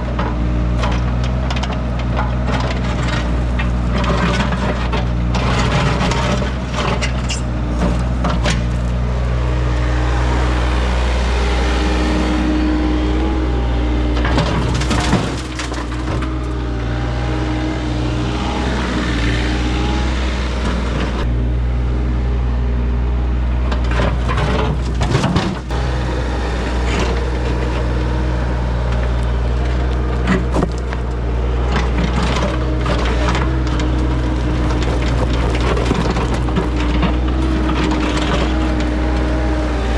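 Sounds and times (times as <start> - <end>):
diesel engine running: 0.0 - 39.9
scraping and crunching knocks: 0.1 - 21.3, 23.7 - 39.9.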